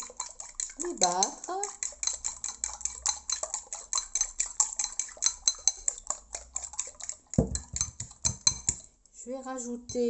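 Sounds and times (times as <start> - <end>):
fork beating eggs in a bowl: 0.0 - 10.0.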